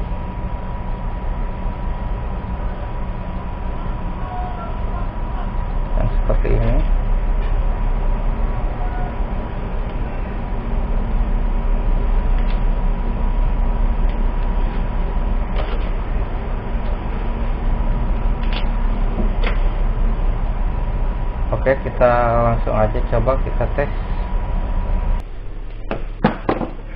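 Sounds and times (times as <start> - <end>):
low rumble: 0.0 - 26.9
thin steady whine: 0.0 - 26.9.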